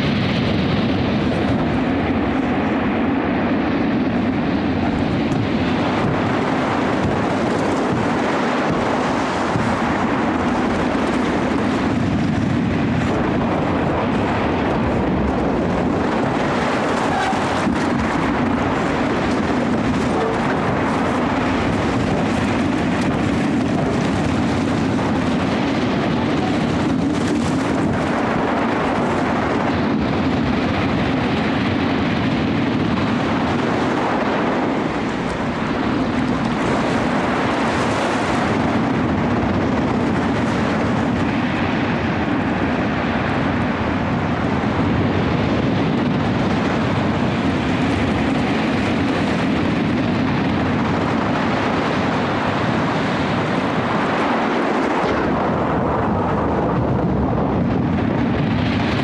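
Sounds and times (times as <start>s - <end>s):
heavy surf: 0.0s - 59.0s
storm wind: 0.0s - 59.0s.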